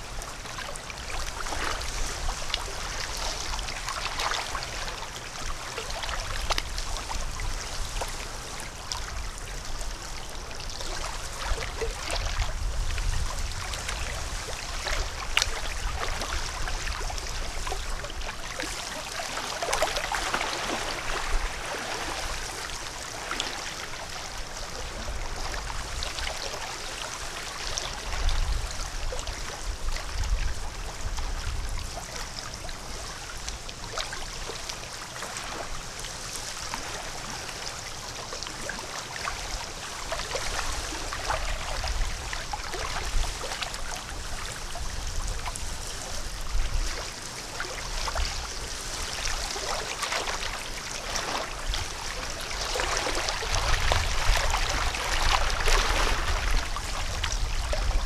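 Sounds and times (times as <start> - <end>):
small water splashes: 0.0 - 58.0
water trickling and gurgling: 0.0 - 58.0.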